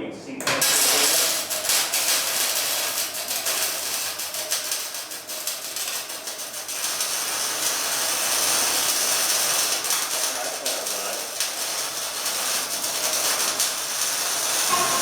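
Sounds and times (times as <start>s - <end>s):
welding arc crackling: 0.4s - 15.0s.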